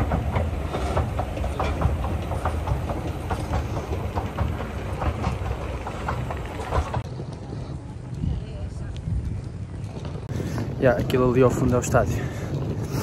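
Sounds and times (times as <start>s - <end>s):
luggage trolley wheels rattling: 0.0s - 13.0s.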